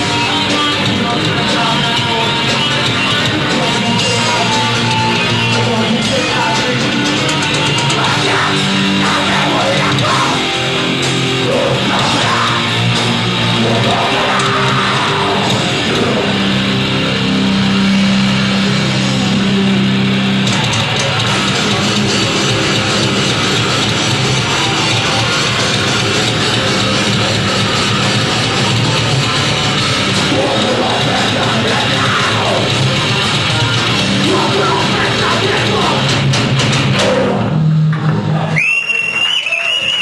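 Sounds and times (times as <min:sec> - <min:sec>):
electric guitar: 0:00.0 - 0:40.0
live rock band playing: 0:00.0 - 0:40.0.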